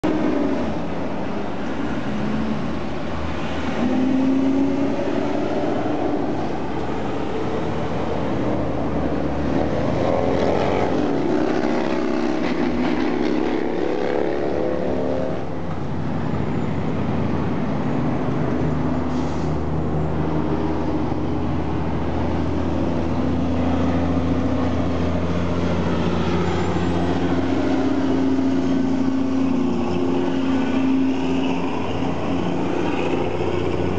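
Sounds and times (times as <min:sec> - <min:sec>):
diesel truck engines: 0:00.0 - 0:33.9
road noise: 0:00.0 - 0:33.9.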